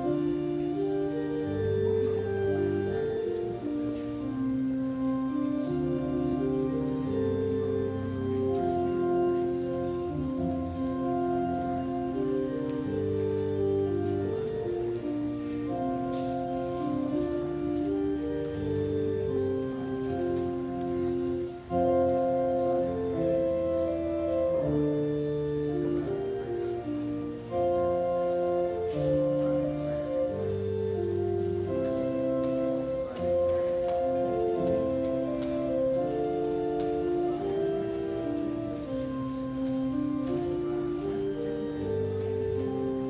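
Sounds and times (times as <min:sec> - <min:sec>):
slow keyboard music: 0:00.0 - 0:43.0.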